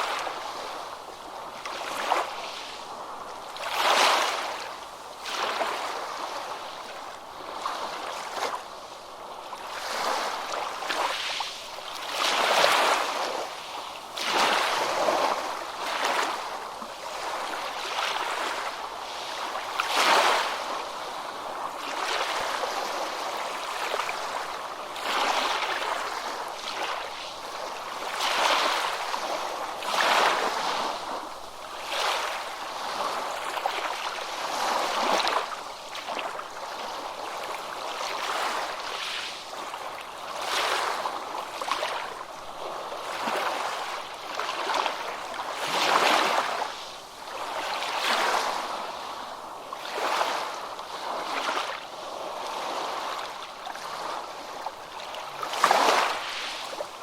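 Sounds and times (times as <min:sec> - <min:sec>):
ocean surf on a beach: 0:00.0 - 0:57.0.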